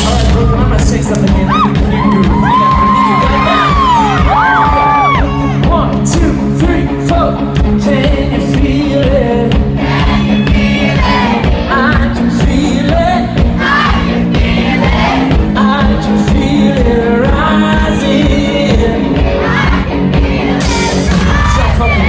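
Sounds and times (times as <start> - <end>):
lead singer singing: 0.0 - 22.0
live rock band playing: 0.0 - 22.0.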